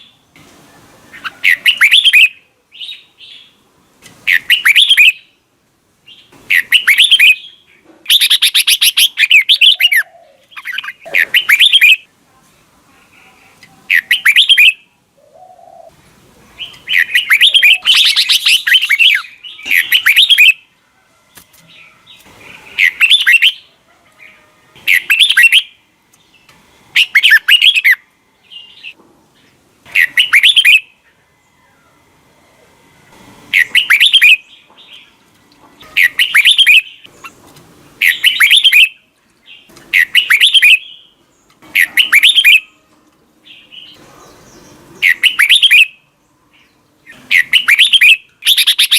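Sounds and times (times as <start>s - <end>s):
bird warbling song: 1.0s - 3.6s, 4.2s - 5.4s, 6.1s - 12.1s, 13.9s - 16.0s, 16.6s - 20.7s, 21.7s - 31.0s, 33.5s - 35.2s, 35.8s - 48.9s.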